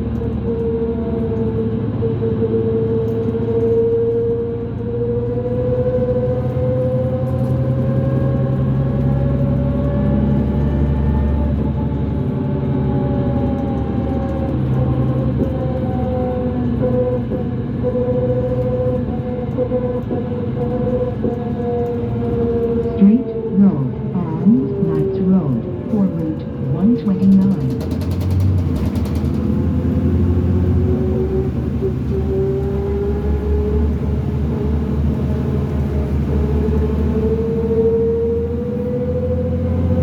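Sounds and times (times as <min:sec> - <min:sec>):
bus diesel engine rumble: 0:00.0 - 0:40.0
high axle whine: 0:04.8 - 0:40.0.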